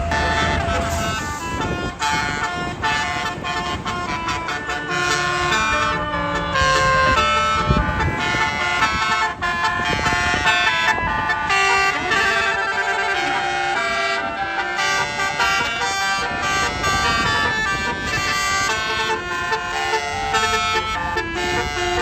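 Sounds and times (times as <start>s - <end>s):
bus engine running: 0.0s - 22.0s
musical bus horn melody: 0.0s - 22.0s.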